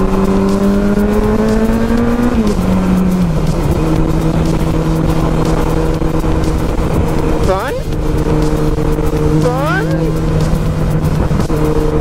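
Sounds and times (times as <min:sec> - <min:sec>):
motorcycle engine running: 0:00.0 - 0:12.0
road noise: 0:00.0 - 0:12.0
rushing wind: 0:00.0 - 0:12.0.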